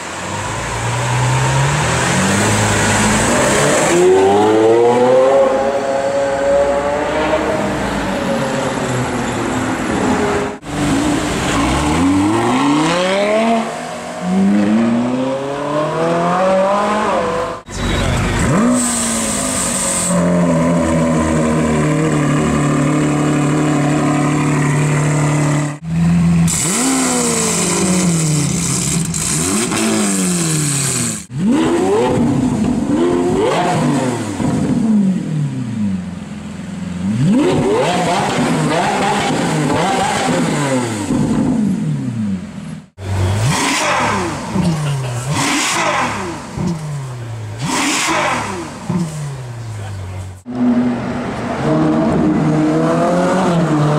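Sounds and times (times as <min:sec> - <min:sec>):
car engine revving: 0:00.4 - 0:08.9, 0:09.5 - 0:53.9.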